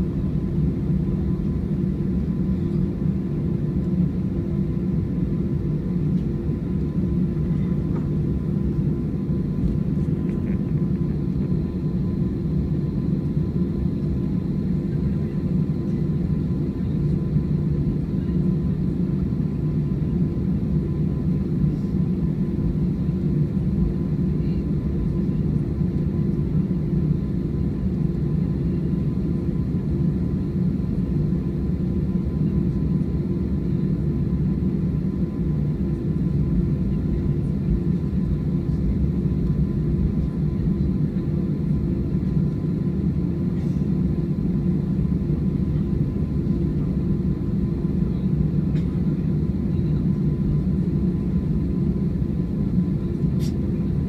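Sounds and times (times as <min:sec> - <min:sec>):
aircraft cabin engine rumble: 0:00.0 - 0:54.0
faint hum: 0:00.0 - 0:54.0.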